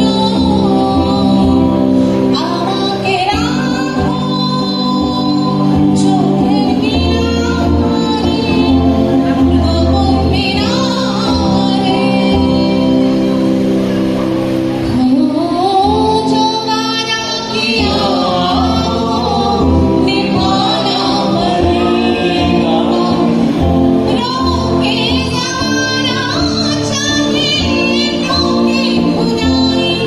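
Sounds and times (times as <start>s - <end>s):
woman singing into microphone: 0.0s - 13.7s, 14.8s - 30.0s
electric guitar: 0.0s - 30.0s.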